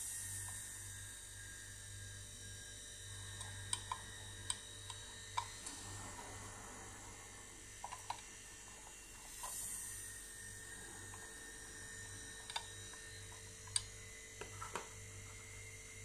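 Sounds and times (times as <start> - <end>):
refrigerator compressor humming: 0.0 - 16.0.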